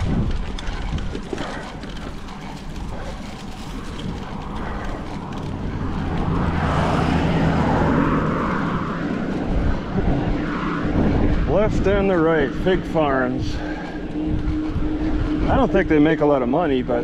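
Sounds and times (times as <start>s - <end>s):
truck engine drone passing: 0.0s - 17.0s
wind noise on microphone: 0.0s - 17.0s.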